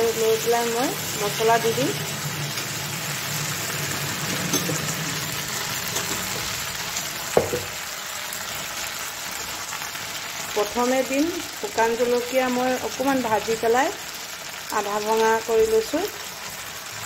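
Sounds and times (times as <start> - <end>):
slices sizzling in hot oil: 0.0 - 17.0.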